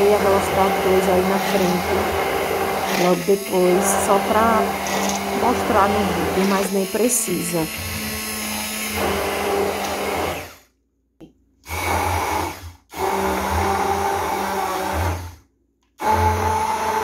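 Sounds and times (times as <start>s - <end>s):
immersion blender motor whining: 0.0s - 10.7s, 11.6s - 15.4s, 16.0s - 17.0s.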